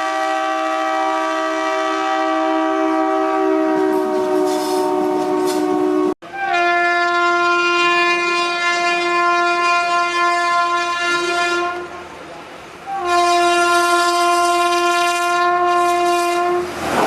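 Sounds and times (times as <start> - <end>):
locomotive horn blast: 0.0 - 16.8.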